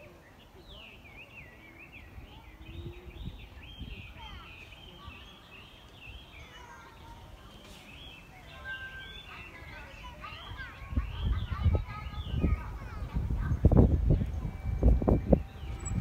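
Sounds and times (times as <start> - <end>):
birds singing and chirping: 0.0 - 16.0.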